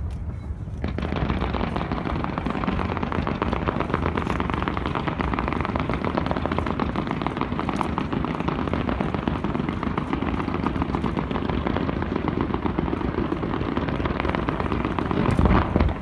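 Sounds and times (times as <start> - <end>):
firework pops and crackles: 0.0 - 16.0
heavy firework booms: 0.8 - 16.0.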